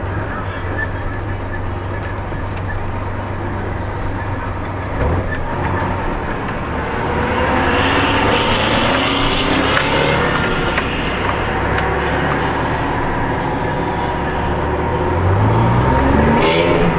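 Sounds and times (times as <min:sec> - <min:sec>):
truck diesel engine running: 0:00.0 - 0:16.9.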